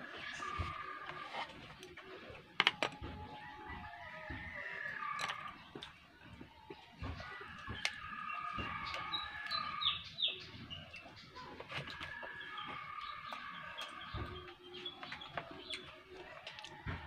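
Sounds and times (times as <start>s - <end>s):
birds chirping: 0.0s - 17.0s
chickens calling: 0.0s - 17.0s.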